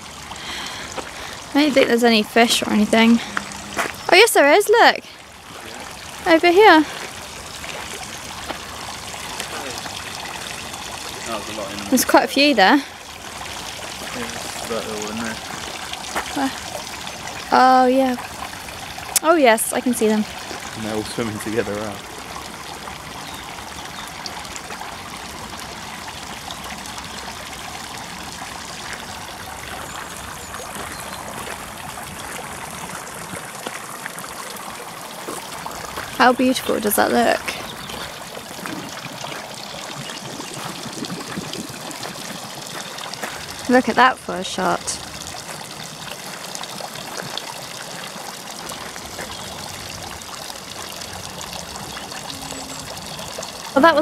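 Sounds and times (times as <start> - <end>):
fountain water trickling: 0.0 - 54.0.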